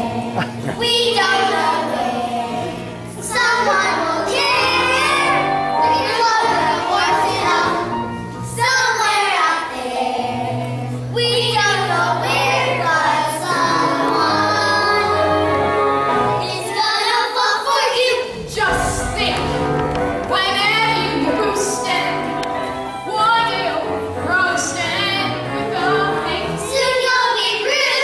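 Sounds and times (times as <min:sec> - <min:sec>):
instrumental backing music: 0:00.0 - 0:17.4, 0:18.0 - 0:28.0
young voices singing: 0:00.0 - 0:28.0.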